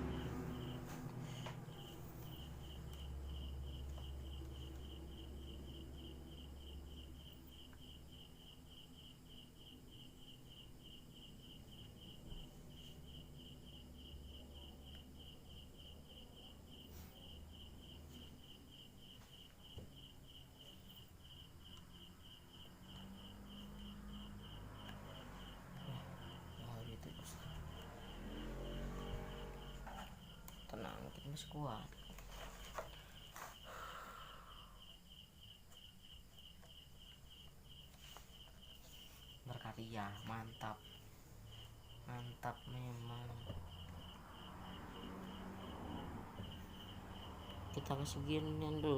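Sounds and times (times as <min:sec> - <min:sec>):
cricket chirping: 0:00.0 - 0:48.9.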